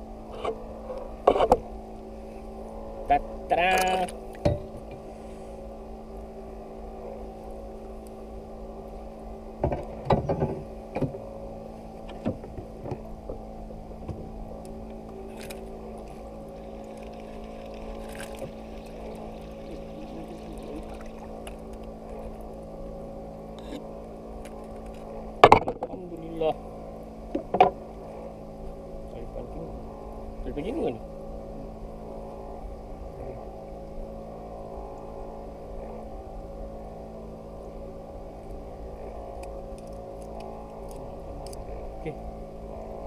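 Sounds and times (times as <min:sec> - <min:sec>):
boat motor humming: 0:00.0 - 0:43.0.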